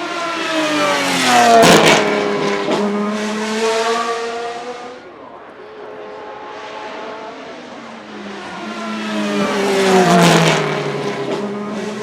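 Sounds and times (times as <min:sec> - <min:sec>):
racing car passing at speed: 0:00.0 - 0:12.0.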